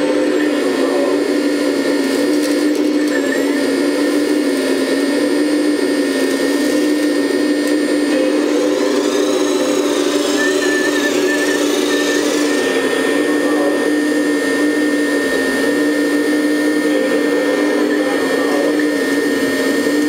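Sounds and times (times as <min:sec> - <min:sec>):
hydraulic pump whining: 0:00.0 - 0:20.0.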